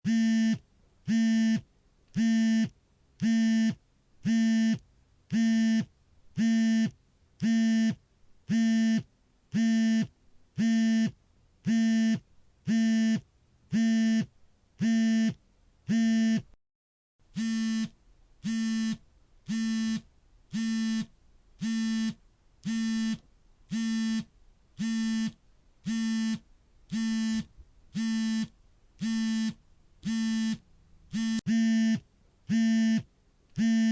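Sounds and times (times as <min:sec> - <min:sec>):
phone vibration buzzing: 0:00.1 - 0:16.6, 0:17.3 - 0:33.9.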